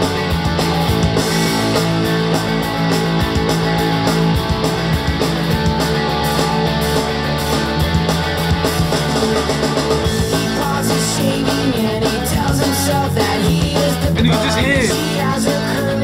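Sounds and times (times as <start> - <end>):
rock music through a speaker: 0.0 - 16.0.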